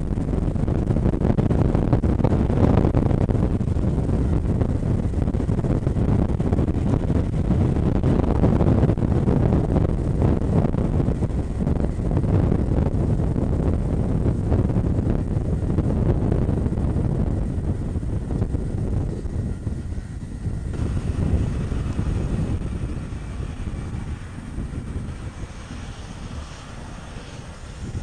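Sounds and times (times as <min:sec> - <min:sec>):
jet engines rumbling: 0:00.0 - 0:28.0
wind buffeting microphone: 0:00.0 - 0:28.0.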